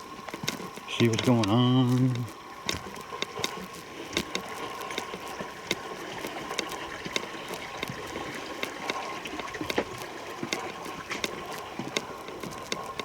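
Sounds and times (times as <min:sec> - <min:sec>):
footsteps crunching on trail: 0:00.0 - 0:13.0
steady background hiss: 0:00.0 - 0:13.0.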